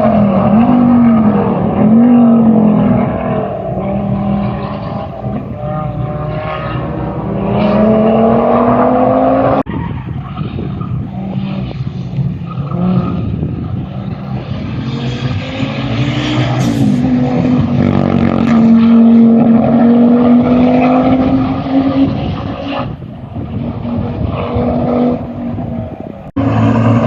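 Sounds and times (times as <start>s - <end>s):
rally car engine accelerating: 0.0s - 9.7s, 10.8s - 27.0s.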